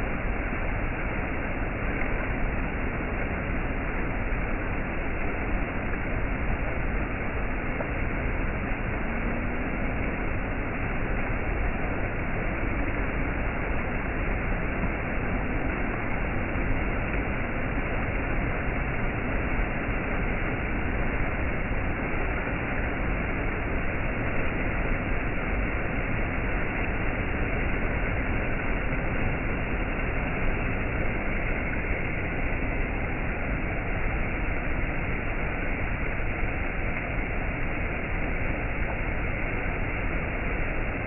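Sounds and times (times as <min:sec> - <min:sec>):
stream splashing over rocks: 0:00.0 - 0:41.0.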